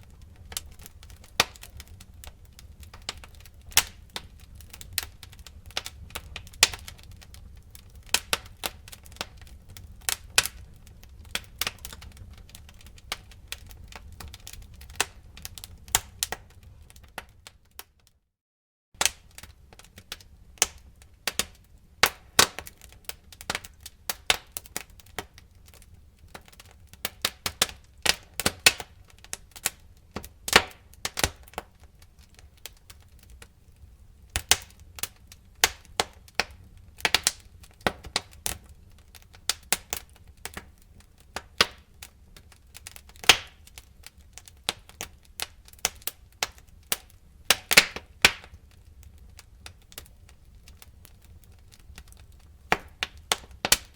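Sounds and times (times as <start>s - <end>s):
wood fire crackling: 0.0s - 18.1s, 19.0s - 53.9s.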